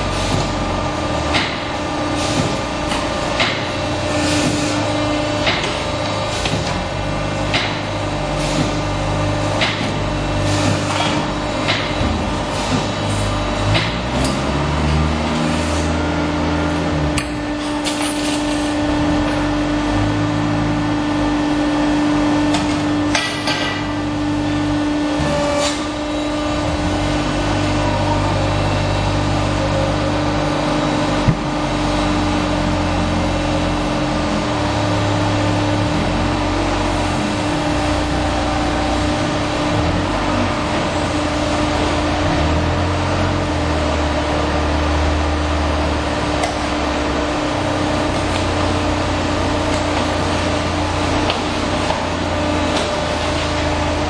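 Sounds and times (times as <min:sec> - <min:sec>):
machinery humming and rumbling: 0:00.0 - 0:54.0.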